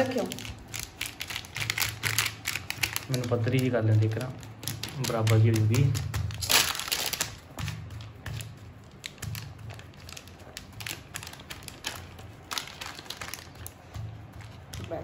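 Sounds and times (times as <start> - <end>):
hands patting dough: 0.0 - 15.0
plastic sheet crinkling: 0.0 - 15.0.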